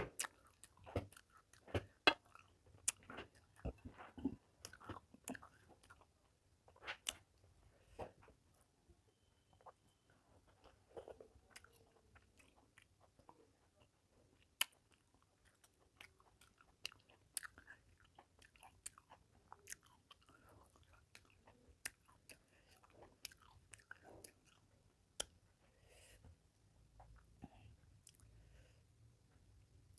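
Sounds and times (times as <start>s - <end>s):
close-up chewing: 0.0s - 8.7s, 9.6s - 26.0s, 26.8s - 28.7s.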